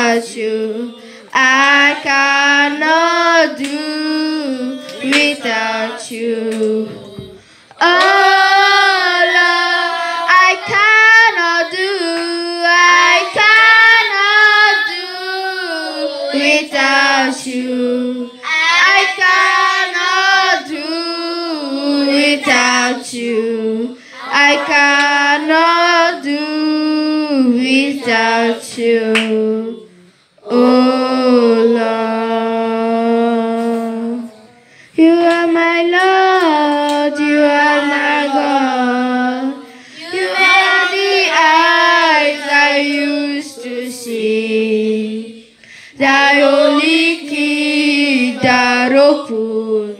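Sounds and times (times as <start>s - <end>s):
girl singing into microphone: 0.0s - 49.9s.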